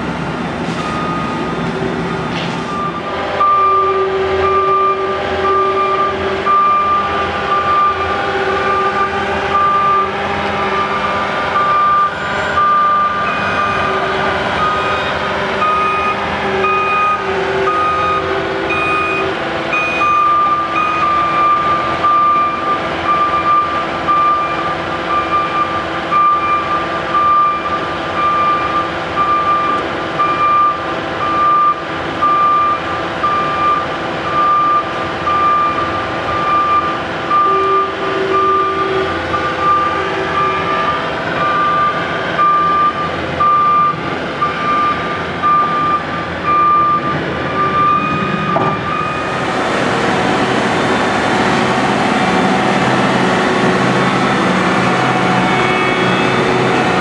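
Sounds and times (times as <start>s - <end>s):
diesel engines running: 0.0s - 57.0s
truck backup alarm beeping: 0.8s - 1.6s, 2.6s - 57.0s.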